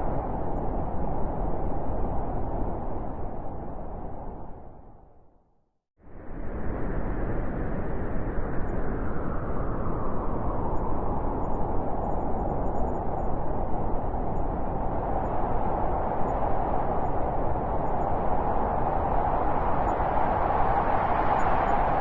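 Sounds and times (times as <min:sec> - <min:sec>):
blizzard wind blowing: 0:00.0 - 0:05.3, 0:06.0 - 0:22.0.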